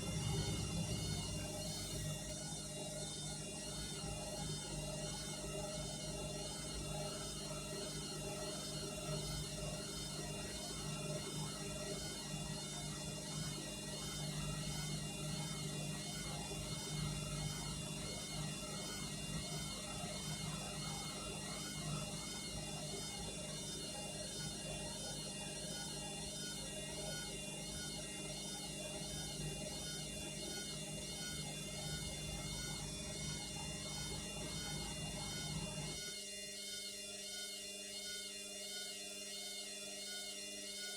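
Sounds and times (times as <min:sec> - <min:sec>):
washing machine motor hum and whine: 0:00.0 - 0:40.9.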